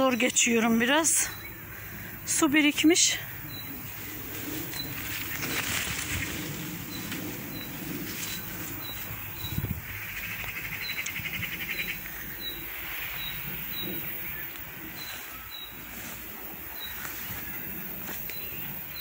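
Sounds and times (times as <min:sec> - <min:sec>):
rustling and steps in undergrowth: 0:00.0 - 0:19.0.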